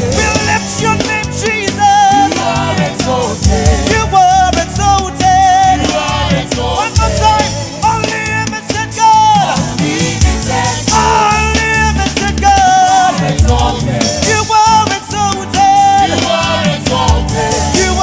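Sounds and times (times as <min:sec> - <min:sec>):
gospel band playing: 0:00.0 - 0:18.0
person singing: 0:00.0 - 0:18.0.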